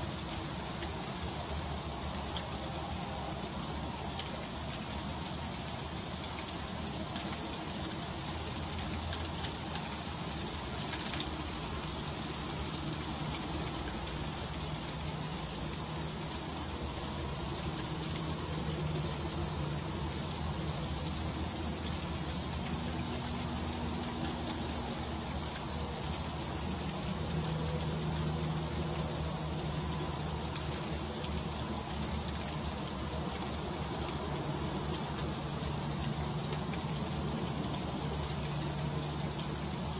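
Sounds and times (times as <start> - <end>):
freezing rain hissing: 0.0 - 39.9.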